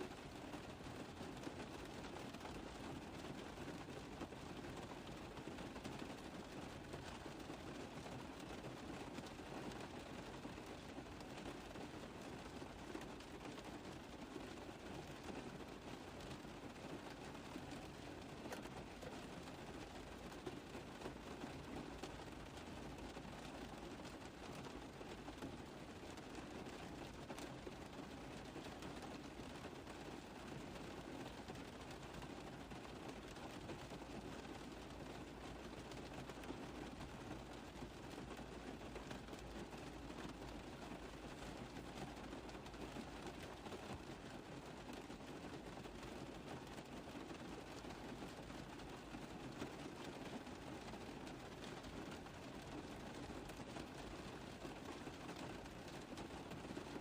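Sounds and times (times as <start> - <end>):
rain on a car roof: 0.0 - 57.0.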